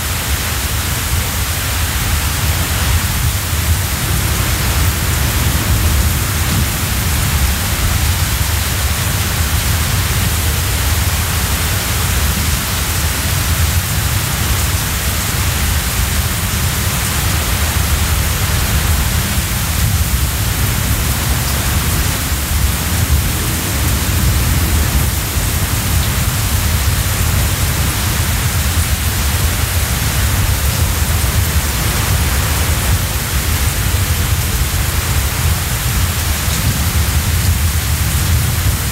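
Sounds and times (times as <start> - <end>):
strong wind blowing: 0.0 - 38.9.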